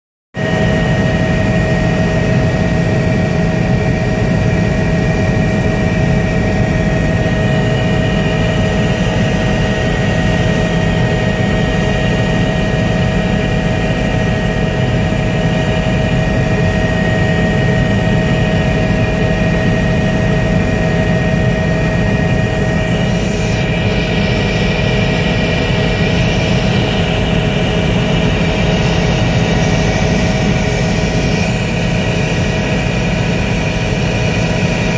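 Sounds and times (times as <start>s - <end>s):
helicopter cabin drone: 0.4s - 34.9s
steady whining tones: 0.4s - 34.9s.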